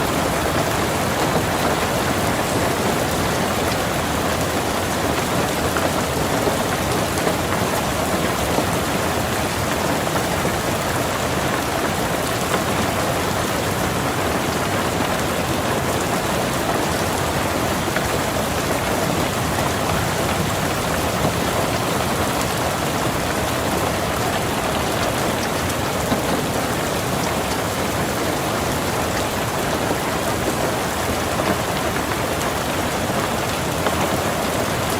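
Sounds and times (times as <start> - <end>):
rain falling on a car: 0.0 - 34.9.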